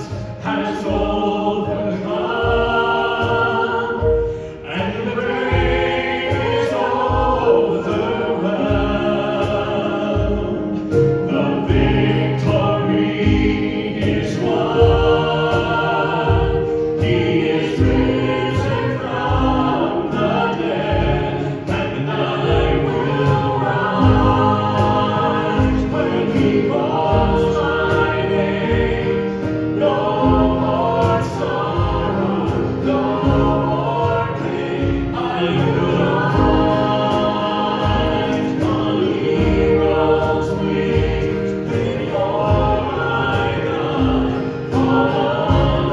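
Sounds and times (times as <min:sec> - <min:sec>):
steady drum beat: 0:00.0 - 0:45.9
worship singing over chords: 0:00.0 - 0:45.9.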